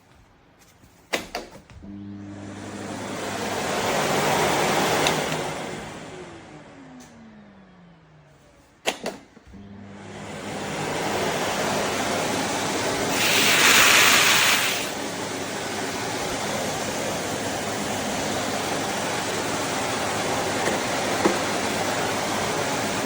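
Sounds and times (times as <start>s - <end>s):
vacuum cleaner motor running: 1.8s - 8.3s, 9.5s - 23.0s.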